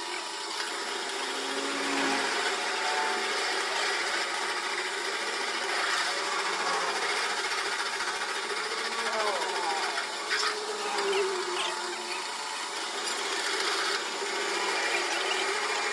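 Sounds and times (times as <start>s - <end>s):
workshop machine whining: 0.0s - 15.9s.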